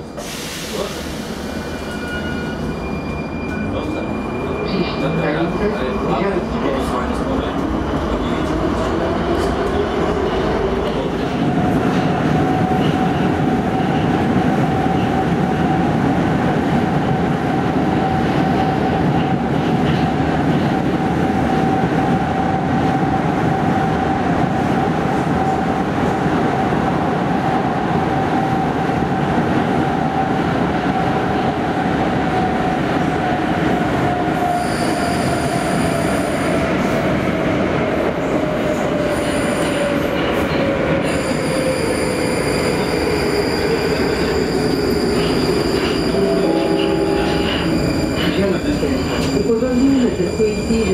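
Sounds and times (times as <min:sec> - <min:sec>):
train wheels rumbling on track: 0:05.1 - 0:50.9.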